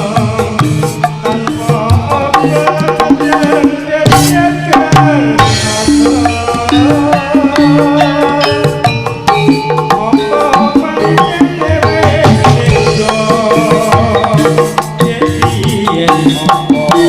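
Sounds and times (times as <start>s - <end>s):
hand drums beating: 0.0s - 17.0s
pitched melodic notes: 0.2s - 17.0s.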